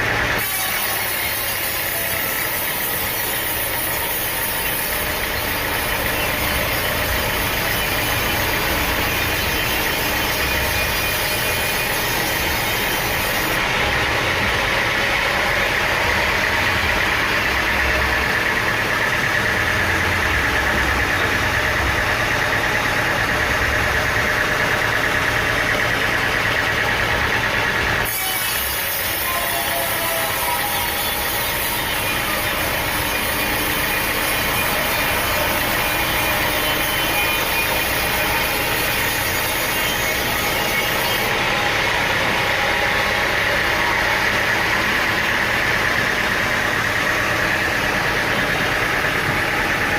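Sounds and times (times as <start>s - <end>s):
high machine whine: 0.0s - 49.9s
sawmill machinery running: 0.0s - 49.9s.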